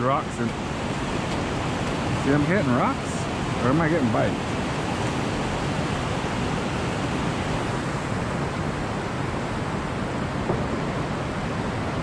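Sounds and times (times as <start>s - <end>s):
creek water rushing over rapids: 0.0s - 12.0s.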